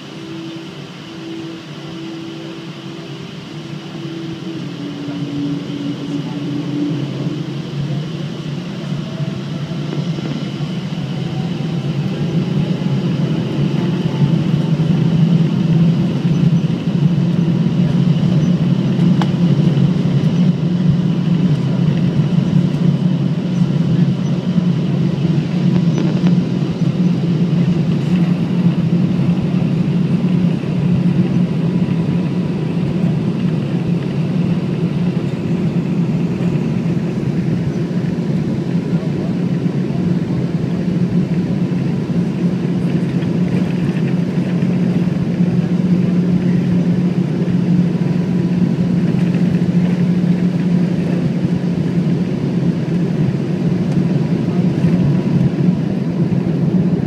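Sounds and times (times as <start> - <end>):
jet engine noise in cabin: 0.0 - 57.0
jet engine whine: 0.0 - 57.0.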